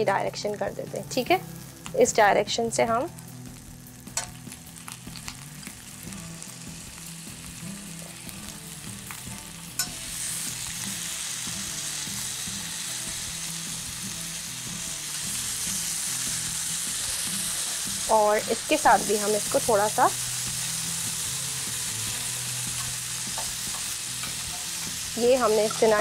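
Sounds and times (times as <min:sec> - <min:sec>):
chicken sizzling in grill pan: 0:00.0 - 0:26.0.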